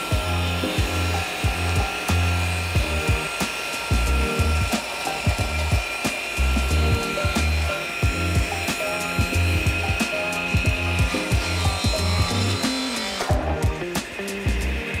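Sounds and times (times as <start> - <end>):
background music with bass beat: 0.0 - 15.0
cross-cut saw cutting wood: 0.0 - 15.0.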